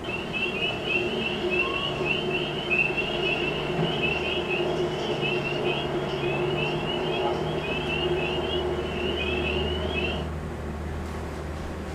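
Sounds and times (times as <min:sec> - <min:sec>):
insects chirping: 0:00.0 - 0:10.3
steady low hum: 0:00.0 - 0:11.9.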